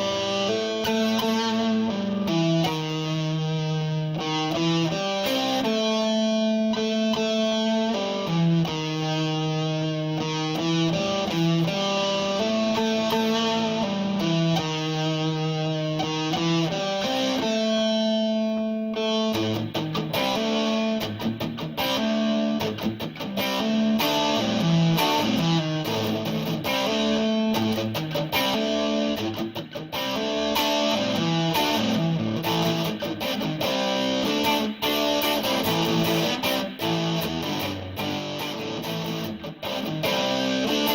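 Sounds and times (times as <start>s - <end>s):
overdriven electric guitar: 0.0s - 40.9s.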